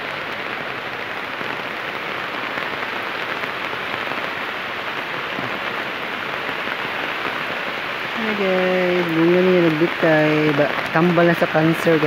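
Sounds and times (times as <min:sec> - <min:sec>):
heavy rain on wet pavement: 0:00.0 - 0:12.0.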